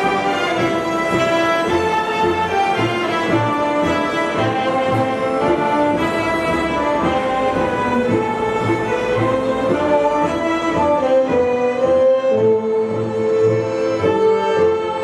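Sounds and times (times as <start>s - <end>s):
folk string ensemble with violins: 0.0s - 15.0s.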